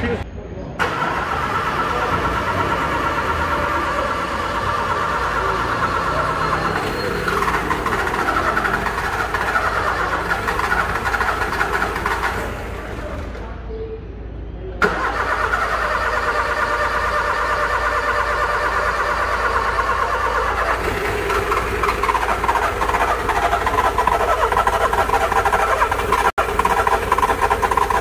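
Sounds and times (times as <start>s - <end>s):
car starter clicking: 0.8s - 12.9s, 14.8s - 28.0s.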